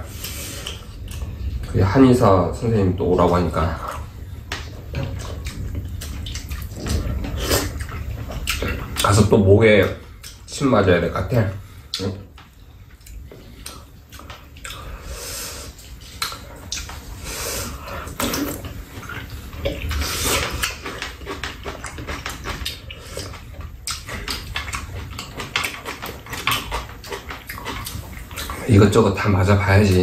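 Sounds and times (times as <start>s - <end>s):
slurping and chewing: 0.0s - 1.8s, 3.2s - 30.0s.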